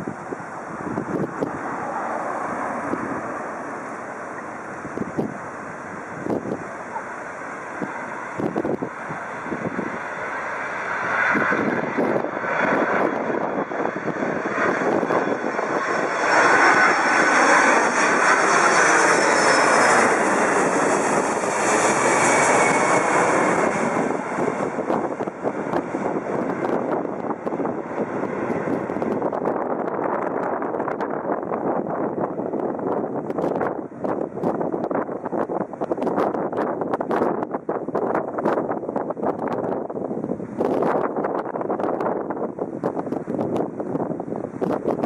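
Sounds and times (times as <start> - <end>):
jet airliner passing overhead: 0.0 - 45.0.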